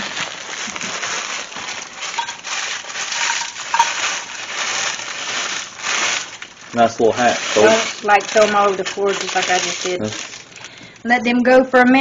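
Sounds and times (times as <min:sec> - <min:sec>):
crumbs pattering onto pan: 0:00.0 - 0:10.5
plastic bag crinkling: 0:00.0 - 0:11.2.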